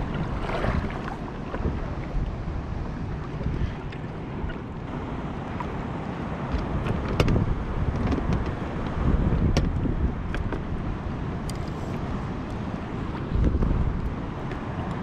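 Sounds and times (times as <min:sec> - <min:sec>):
water rushing around a hull: 0:00.0 - 0:15.0
wind on microphone: 0:00.0 - 0:15.0.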